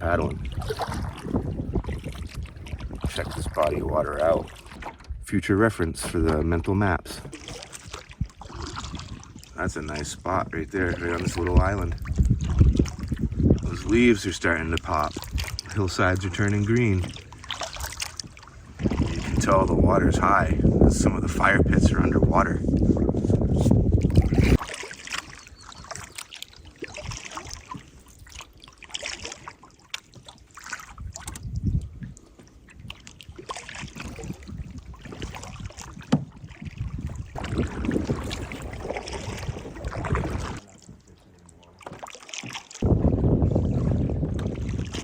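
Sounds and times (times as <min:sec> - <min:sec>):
paddle knock: 0:00.0 - 0:05.2, 0:05.9 - 0:20.4, 0:21.4 - 0:45.0
water splashes and drips: 0:00.0 - 0:05.2, 0:06.0 - 0:19.8, 0:24.0 - 0:45.0
wind rumble on microphone: 0:00.0 - 0:26.2, 0:30.9 - 0:41.0, 0:42.8 - 0:45.0
paddle strokes in water: 0:00.0 - 0:45.0.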